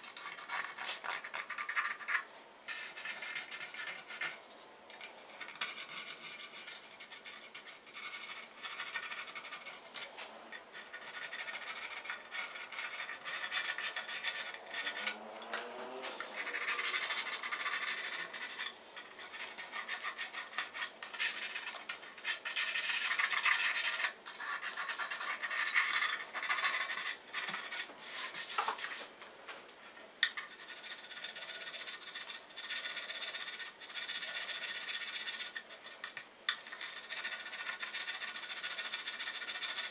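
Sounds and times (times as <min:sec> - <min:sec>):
files and sandpaper rasping wood: 0:05.4 - 0:29.1, 0:30.4 - 0:39.9.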